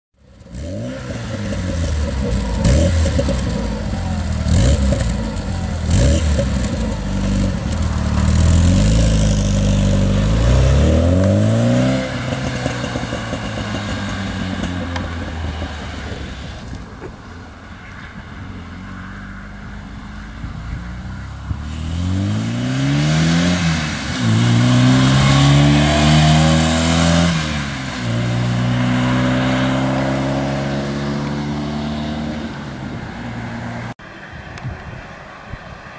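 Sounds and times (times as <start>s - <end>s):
car engine revving and accelerating: 0.3s - 16.7s, 18.8s - 34.0s.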